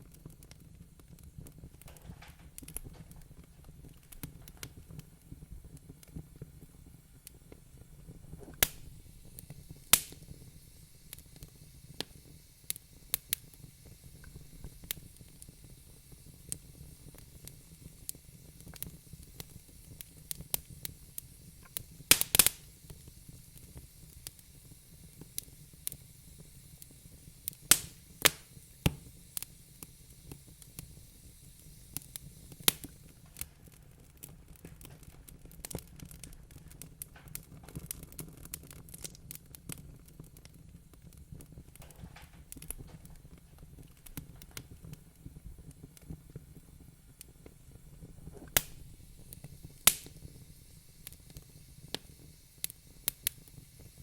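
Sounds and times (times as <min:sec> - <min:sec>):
low steady fire rumble: 0:00.0 - 0:54.0
wood fire popping and snapping: 0:00.0 - 0:54.0.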